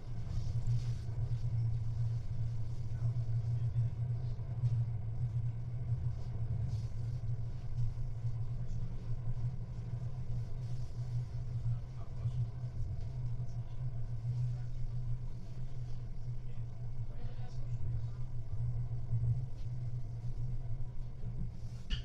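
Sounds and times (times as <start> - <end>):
electric train low rumble: 0.0 - 22.0.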